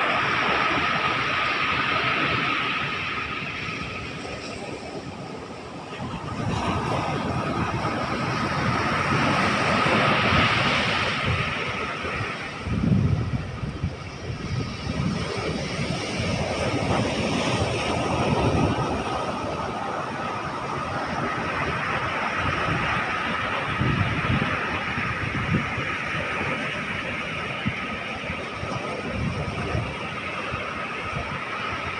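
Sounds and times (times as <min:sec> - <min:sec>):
ocean surf washing ashore: 0:00.0 - 0:31.9
wind buffeting microphone: 0:00.0 - 0:31.9.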